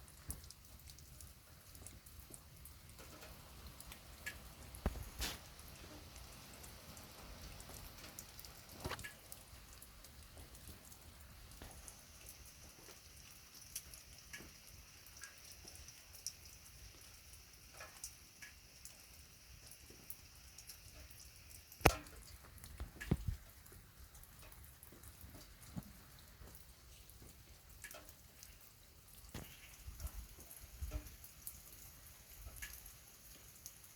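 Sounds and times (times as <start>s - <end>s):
faint hiss of rain: 0.0s - 33.9s
raindrops dripping and tapping: 0.0s - 33.9s.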